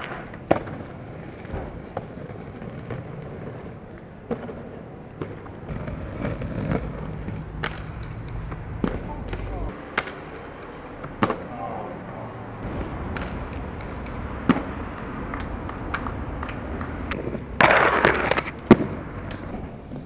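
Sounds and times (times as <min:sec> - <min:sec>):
skateboard clacks: 0:00.0 - 0:11.6, 0:12.6 - 0:20.0
skateboard scraping: 0:00.0 - 0:11.9, 0:12.6 - 0:20.0
skateboard wheels rolling: 0:00.0 - 0:20.0.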